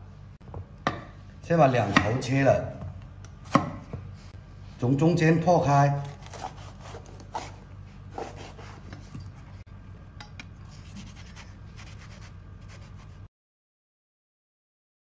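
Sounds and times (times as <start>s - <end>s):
low steady hum: 0.0s - 13.3s.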